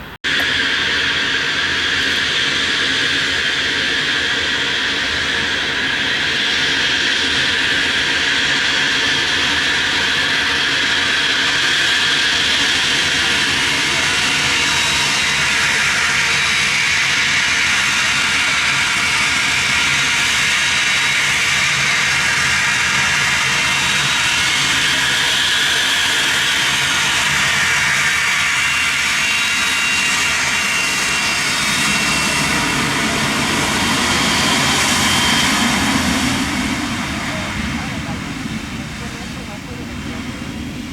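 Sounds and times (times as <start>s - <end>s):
deep jet rumble: 0.0s - 40.9s
jet engines whining: 0.0s - 40.9s.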